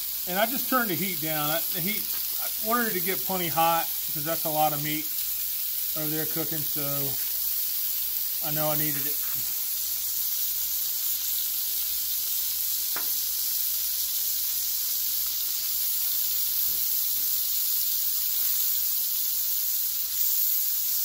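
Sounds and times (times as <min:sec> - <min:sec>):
meat sizzling on a griddle: 0:00.0 - 0:21.0.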